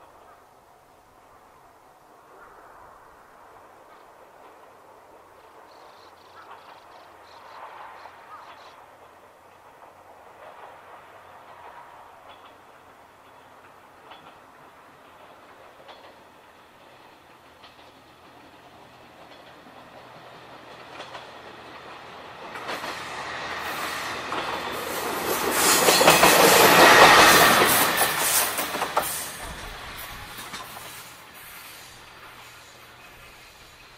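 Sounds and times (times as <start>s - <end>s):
diesel railcar passing: 0.0s - 33.9s
wheels clacking over rail joints: 3.9s - 33.9s.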